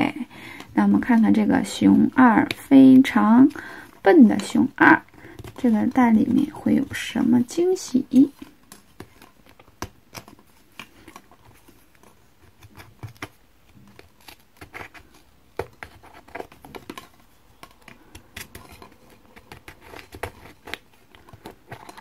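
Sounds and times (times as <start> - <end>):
plastic egg and wrapping handled: 0.2 - 22.0.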